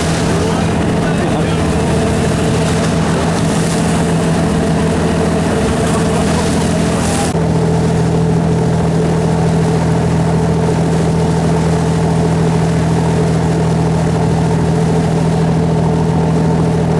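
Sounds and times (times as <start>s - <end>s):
boat engine droning: 0.0s - 16.9s.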